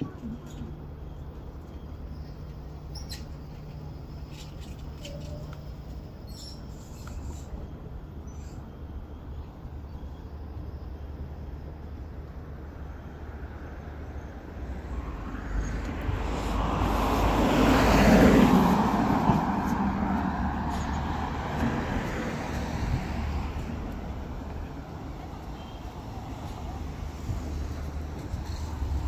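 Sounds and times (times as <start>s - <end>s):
distant traffic hum: 0.0s - 29.0s.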